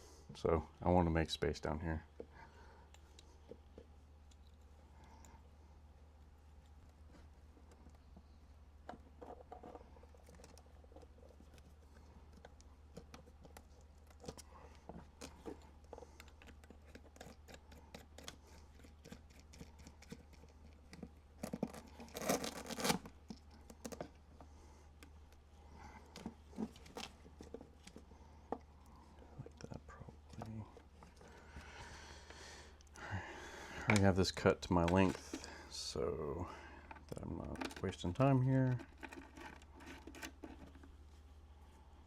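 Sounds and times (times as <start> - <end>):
small clicks and scrapes: 2.2 - 5.5, 6.1 - 32.9, 36.7 - 41.8.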